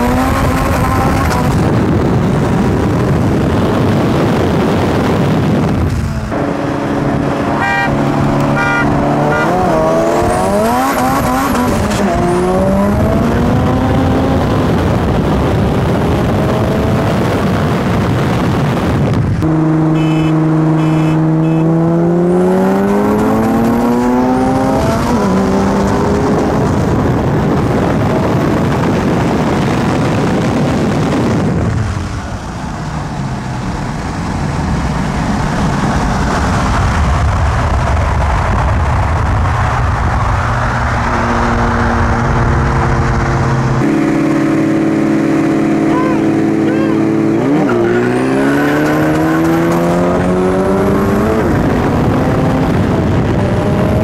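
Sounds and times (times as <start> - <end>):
cars accelerating at full throttle: 0.0 - 54.0.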